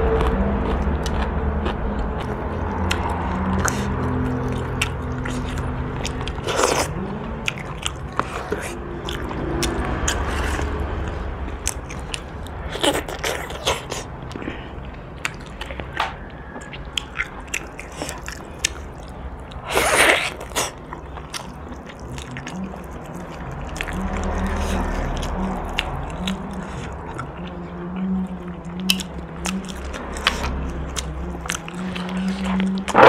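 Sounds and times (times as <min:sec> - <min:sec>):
chewing and gnawing bones: 0:00.0 - 0:33.0
low steady hum: 0:00.0 - 0:33.0.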